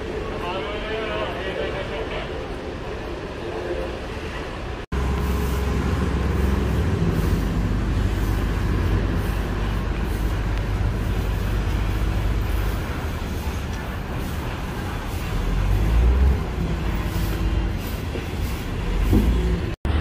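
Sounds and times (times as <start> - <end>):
heavy traffic rumble: 0.0 - 20.0.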